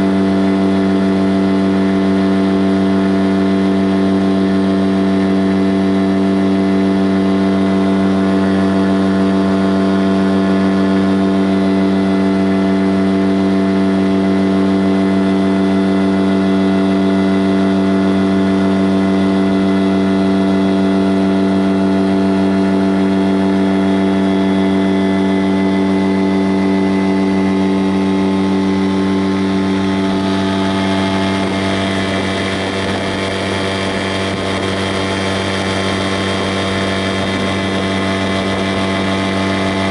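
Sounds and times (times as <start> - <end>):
motor droning hum: 0.0 - 39.9.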